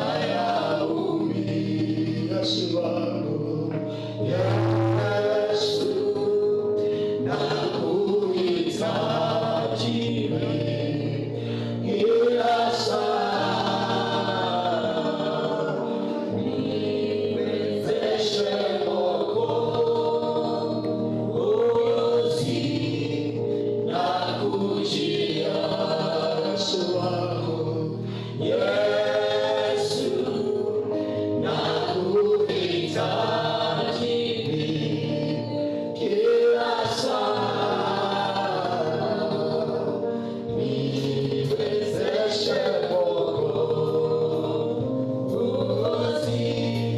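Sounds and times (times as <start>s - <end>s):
group singing gospel song: 0.0s - 46.9s.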